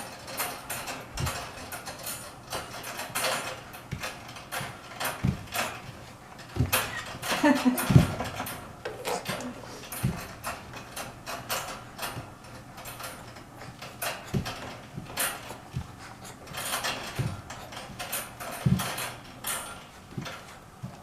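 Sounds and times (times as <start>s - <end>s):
baby bouncer creaking and clicking: 0.0s - 21.0s.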